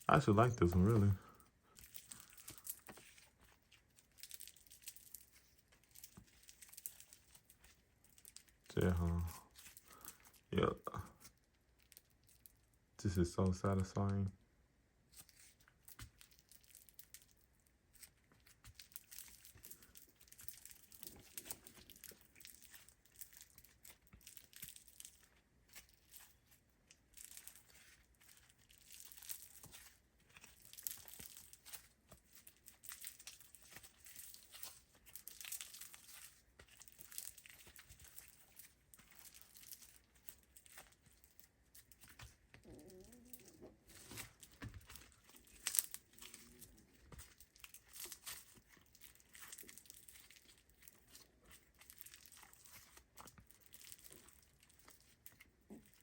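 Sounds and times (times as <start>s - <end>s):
slime crackling and popping: 0.0s - 14.3s, 15.1s - 56.0s.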